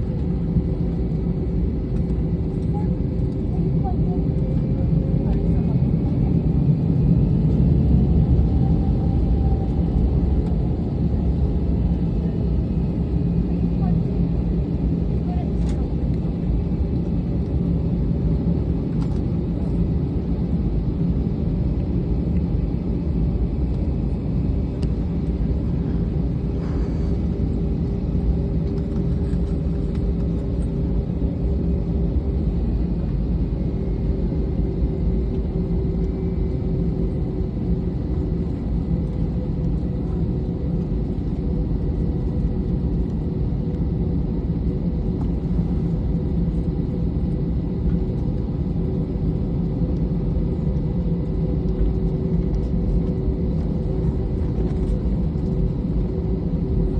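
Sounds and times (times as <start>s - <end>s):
airliner cabin rumble: 0.0s - 56.9s.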